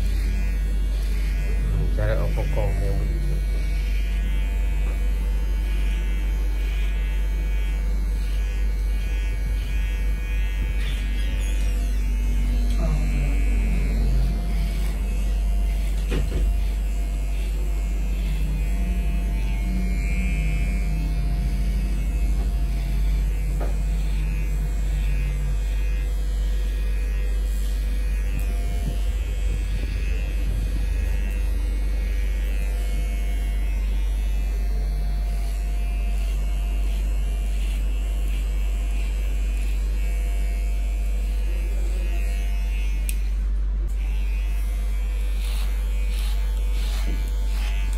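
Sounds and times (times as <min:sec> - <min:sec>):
electric hair clipper buzzing: 0:00.0 - 0:47.9.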